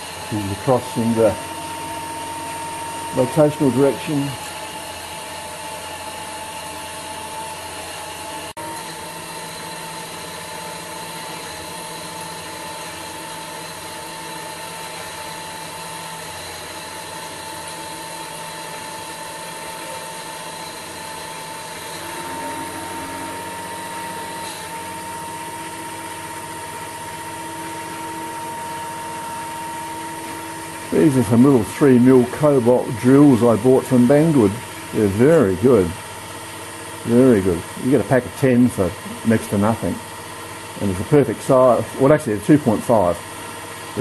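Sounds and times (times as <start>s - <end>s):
drill cutting into metal: 0.0s - 44.0s
motor spindle whining: 0.0s - 44.0s.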